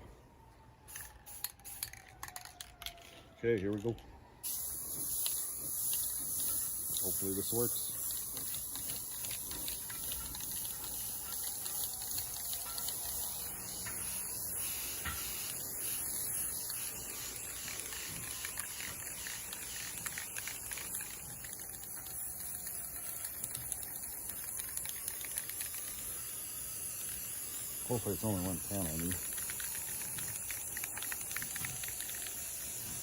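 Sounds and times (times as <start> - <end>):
spray paint can hissing: 0.9 - 3.0, 4.4 - 33.0.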